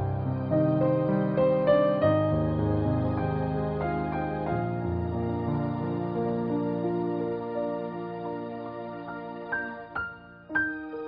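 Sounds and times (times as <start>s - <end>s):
slow piano background music: 0.0s - 11.0s.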